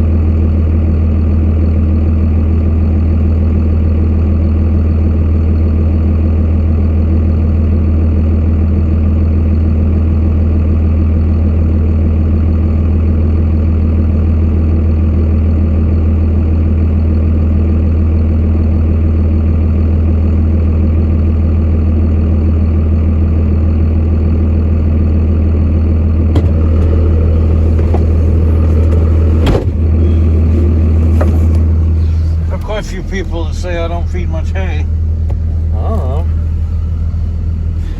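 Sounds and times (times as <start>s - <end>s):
truck engine running: 0.0s - 37.9s.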